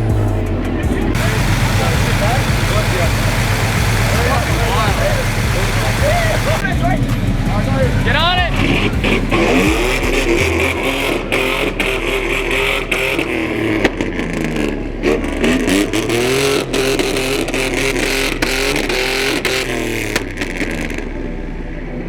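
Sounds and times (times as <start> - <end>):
car engine revving hard: 0.0 - 21.2.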